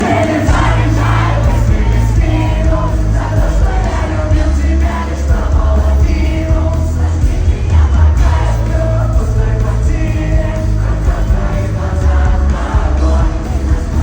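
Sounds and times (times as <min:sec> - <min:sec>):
person singing: 0:00.0 - 0:14.0
rock band playing live: 0:00.0 - 0:14.0.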